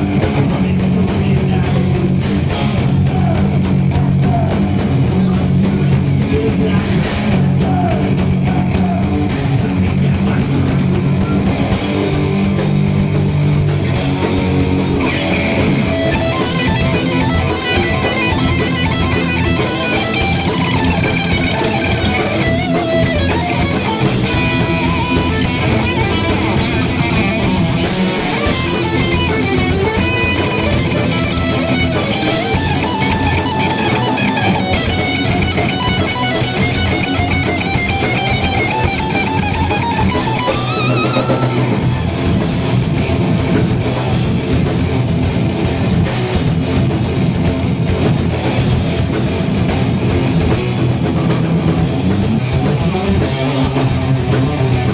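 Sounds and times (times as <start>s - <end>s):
heavy metal band playing: 0.0s - 54.9s
lead guitar line: 0.0s - 54.9s.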